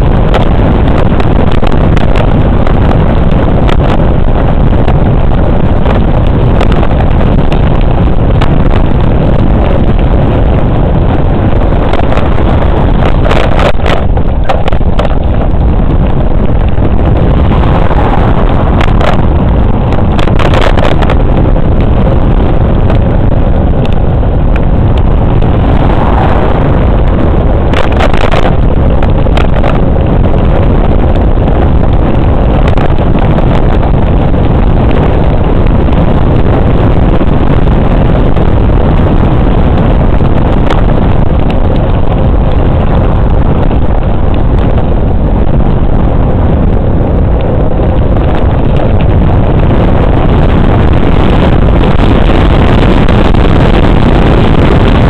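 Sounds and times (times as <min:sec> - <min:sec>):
bicycle tyre noise on asphalt: 0:00.0 - 0:55.0
wind buffeting microphone: 0:00.0 - 0:55.0.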